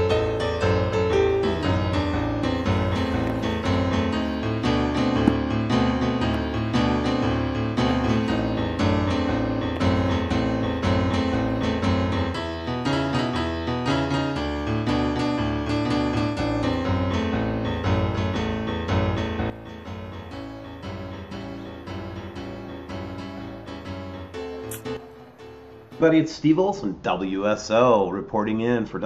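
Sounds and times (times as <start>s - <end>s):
instrumental piano music: 0.0s - 26.3s.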